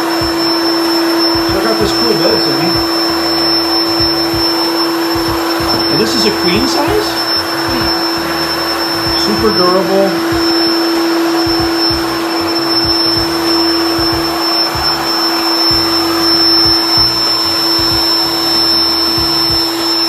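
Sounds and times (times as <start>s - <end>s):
electric air pump whirring: 0.0s - 20.0s.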